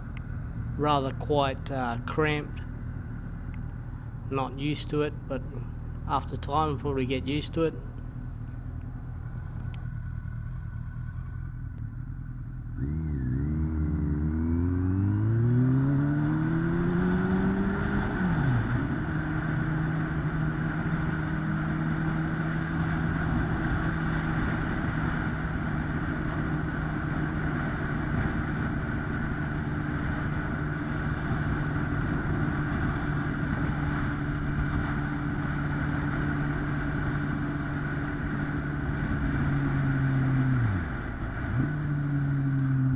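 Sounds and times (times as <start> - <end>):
motorcycle engine accelerating: 7.8 - 42.9.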